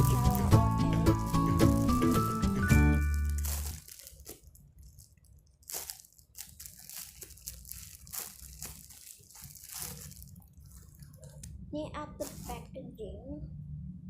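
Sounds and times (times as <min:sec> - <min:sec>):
plastic packaging crinkling: 0:00.0 - 0:11.5, 0:12.2 - 0:12.7.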